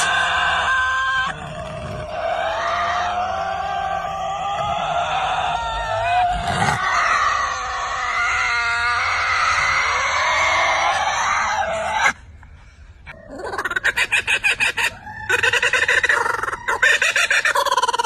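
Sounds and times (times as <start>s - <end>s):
wailing animal calls: 0.0s - 12.2s, 13.1s - 18.0s.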